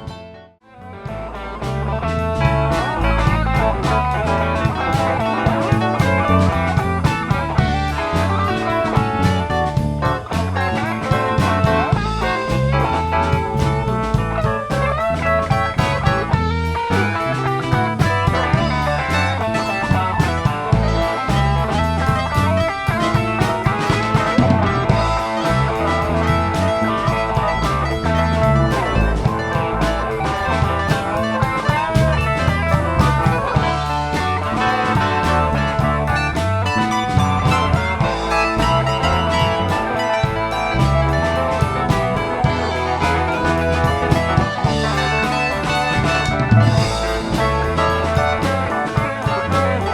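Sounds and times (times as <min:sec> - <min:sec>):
drum kit: 0:00.0 - 0:49.9
electric guitar: 0:00.0 - 0:49.9
low bass line: 0:00.0 - 0:49.9.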